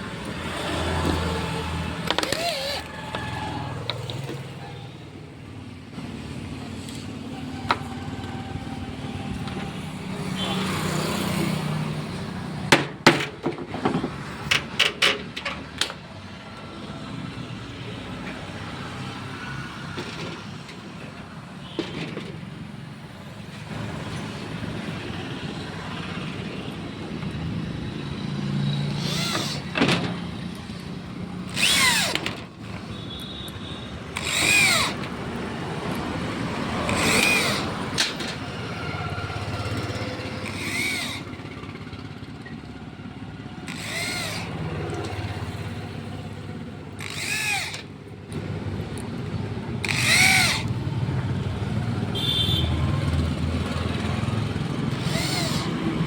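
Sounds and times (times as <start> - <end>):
steady background noise: 0.0 - 56.0.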